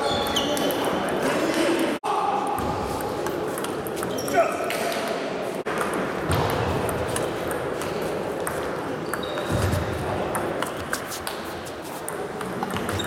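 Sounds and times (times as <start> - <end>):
echoing sports hall noise: 0.0 - 13.0.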